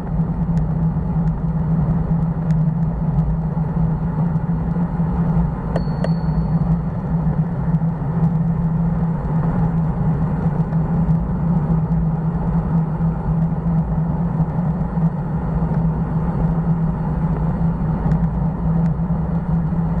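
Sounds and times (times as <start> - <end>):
constant low drone: 0.0 - 20.0
wind and road noise: 0.0 - 20.0.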